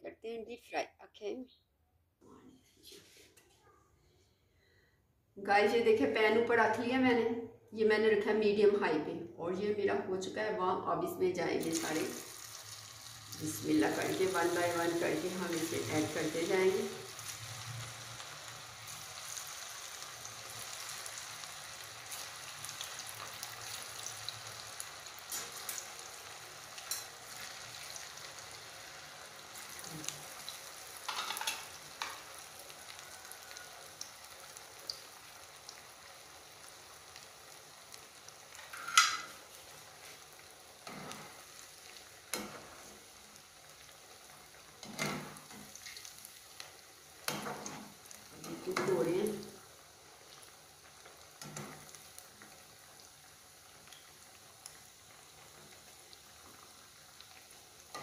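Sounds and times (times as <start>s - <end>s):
food sizzling in hot oil: 11.4s - 58.0s.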